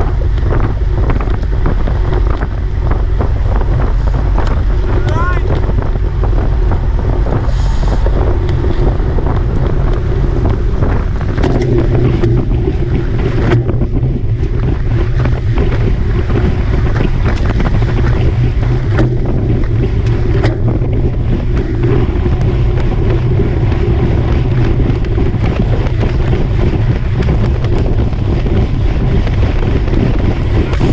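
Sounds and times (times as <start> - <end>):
steady hum: 0.0 - 30.9
wind buffeting microphone: 0.0 - 30.9.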